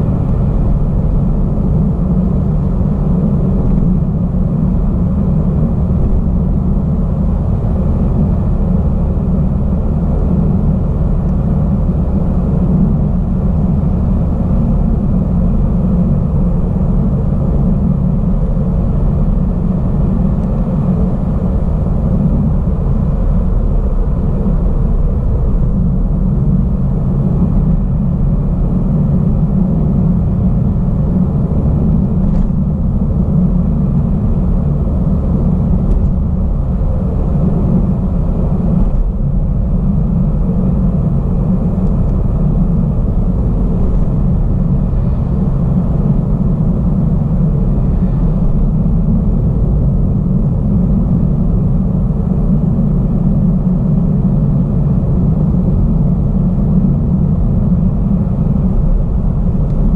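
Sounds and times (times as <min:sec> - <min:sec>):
car interior road noise: 0:00.0 - 0:59.9.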